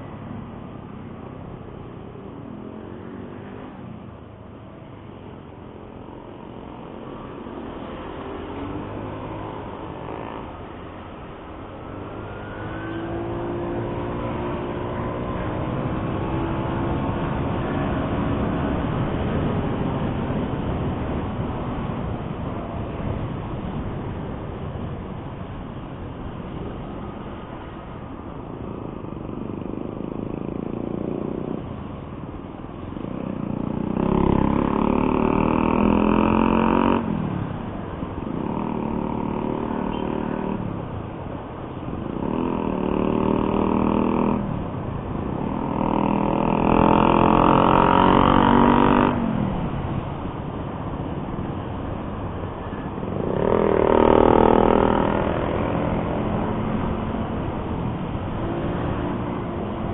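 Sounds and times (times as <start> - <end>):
highway vehicle engines roaring: 0.0 - 59.9.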